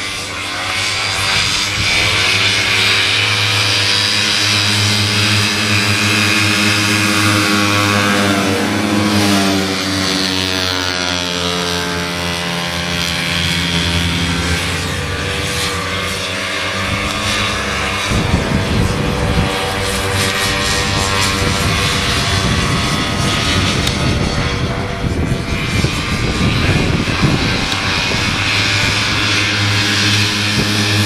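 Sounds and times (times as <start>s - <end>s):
snowmobile engines at high revs: 0.0s - 31.0s.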